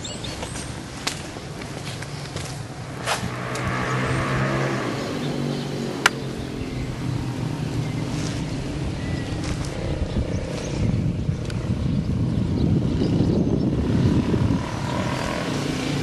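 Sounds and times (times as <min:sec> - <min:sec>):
vehicle engine passing: 0:00.2 - 0:16.0.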